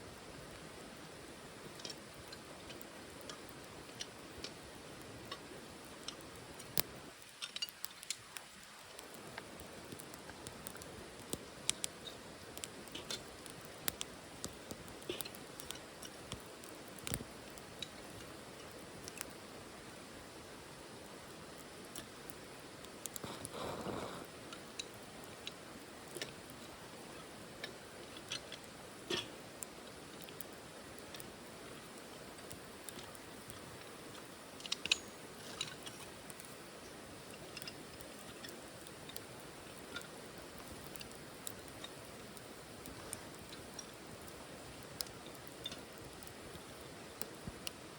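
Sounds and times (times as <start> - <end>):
faint steady hiss: 0.0 - 47.9
wood fire crackling and popping: 0.1 - 47.9.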